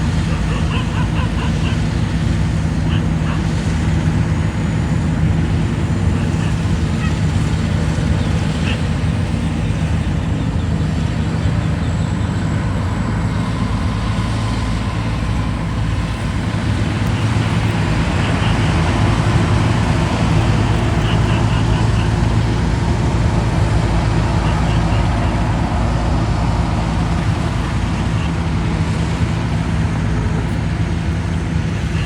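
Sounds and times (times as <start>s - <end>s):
engine running loudly: 0.0s - 32.0s.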